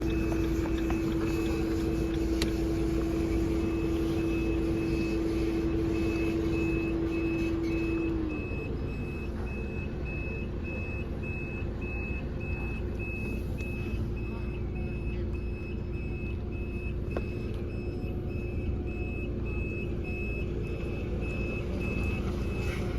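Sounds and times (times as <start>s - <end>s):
truck engine humming: 0.0s - 22.9s
truck reversing alarm beeping: 0.0s - 22.9s.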